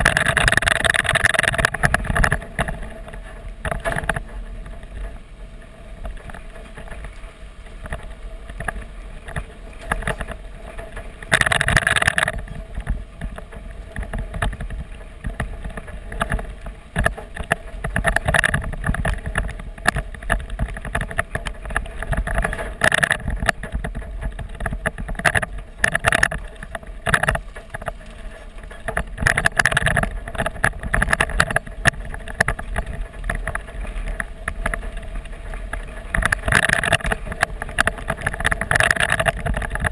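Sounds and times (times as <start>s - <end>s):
tyre and road noise: 0.0s - 39.9s
wind on microphone: 0.0s - 39.9s
knocks and rattles from bumps: 7.8s - 39.9s.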